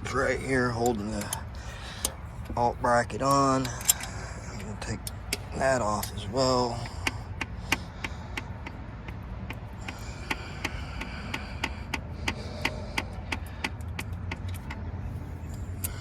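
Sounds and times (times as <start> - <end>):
ratchet wrench clicking: 0.0 - 16.0
steady low hum: 0.0 - 16.0.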